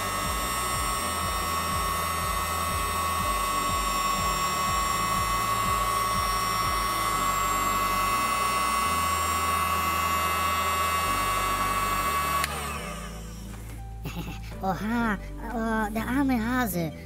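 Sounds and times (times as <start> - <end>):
hot-air gun air rush: 0.0 - 13.8
fan motor whine: 0.0 - 14.6.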